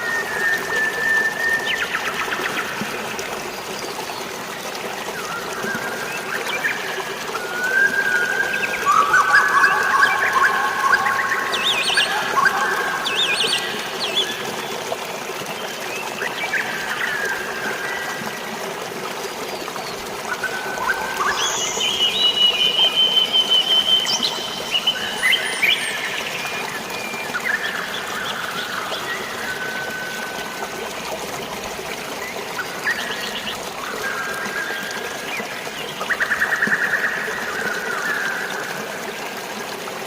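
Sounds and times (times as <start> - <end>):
water trickling: 0.0 - 40.0.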